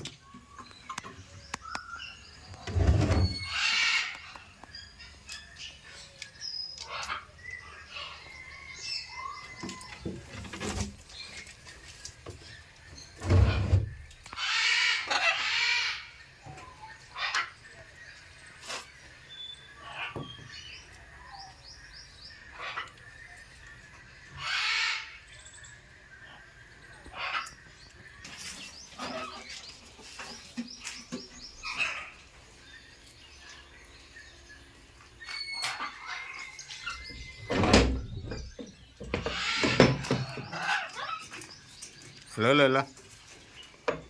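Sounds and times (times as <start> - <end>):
parrots chirping and squawking: 0.5 - 10.3, 11.2 - 17.9, 18.6 - 21.6, 22.2 - 43.7.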